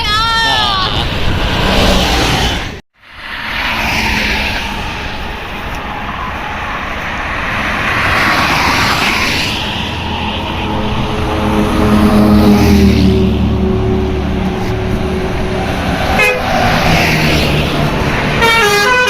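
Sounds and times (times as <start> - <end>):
engine drone: 0.5 - 18.6
bus driving past: 0.9 - 19.0.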